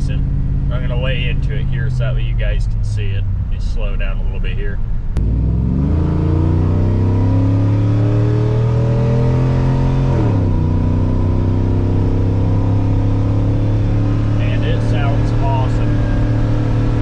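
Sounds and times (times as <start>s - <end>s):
truck engine accelerating hard: 0.0s - 17.0s.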